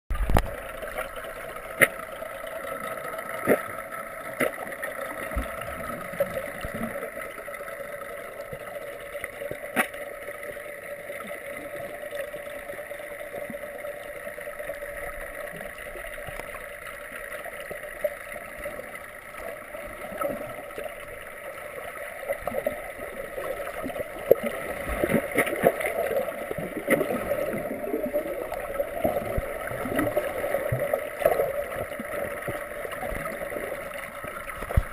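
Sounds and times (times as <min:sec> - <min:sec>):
water gurgling: 0:00.1 - 0:34.9.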